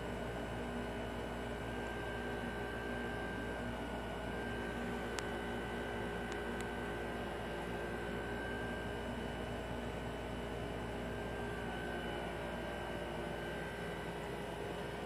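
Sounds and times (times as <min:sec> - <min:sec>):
air conditioner fan running: 0:00.0 - 0:15.0.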